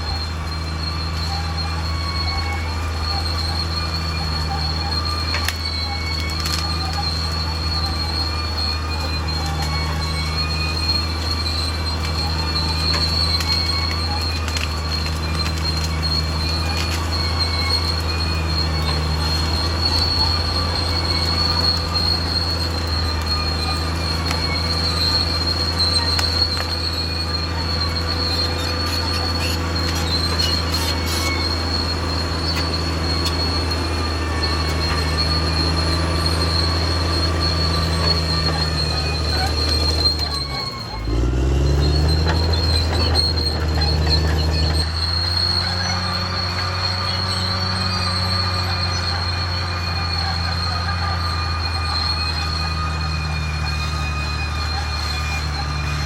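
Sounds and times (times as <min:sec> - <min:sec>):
bulldozer diesel engine running: 0:00.0 - 0:56.0
high-pitched whine: 0:00.0 - 0:56.0.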